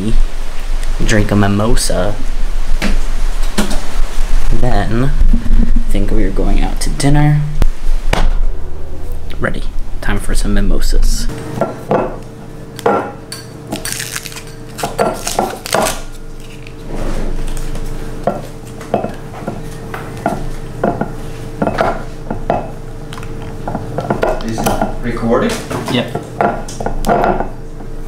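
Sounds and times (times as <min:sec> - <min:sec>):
low hum: 0:00.0 - 0:25.1.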